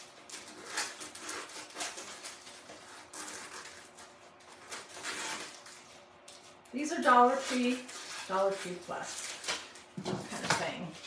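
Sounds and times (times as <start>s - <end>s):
scissors snipping packaging: 0.0s - 11.0s.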